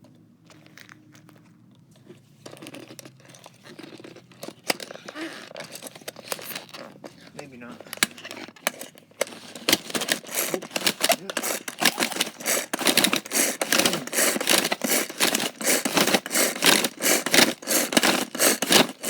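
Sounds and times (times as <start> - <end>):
pull-cord food chopper chopping: 2.5 - 19.0.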